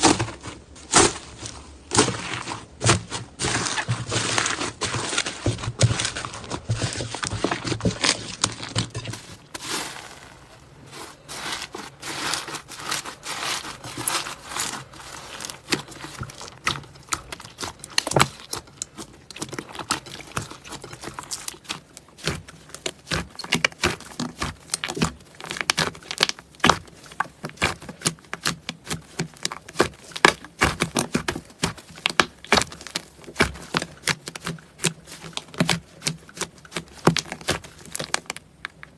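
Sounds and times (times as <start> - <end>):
slime squished by hand: 0.9 - 38.9.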